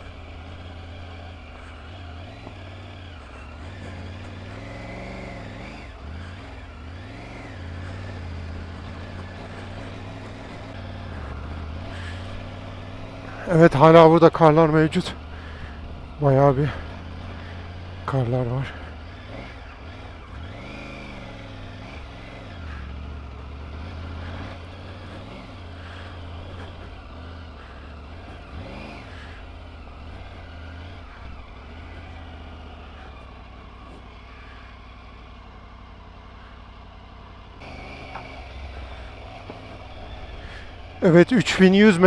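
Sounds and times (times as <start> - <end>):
motorcycle engine under load: 0.0 - 42.0.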